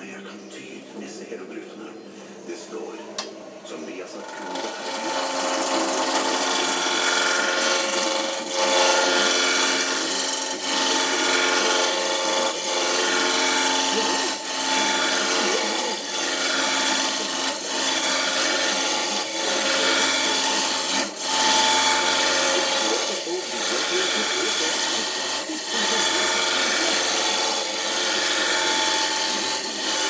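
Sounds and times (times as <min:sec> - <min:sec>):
lathe motor hum: 0:04.1 - 0:30.0
wood rasping on lathe: 0:04.2 - 0:30.0.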